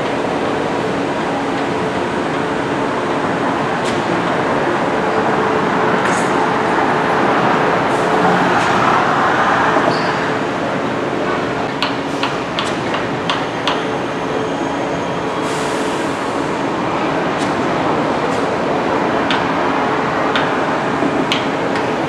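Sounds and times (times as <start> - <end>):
construction machinery and engines: 0.0 - 22.0.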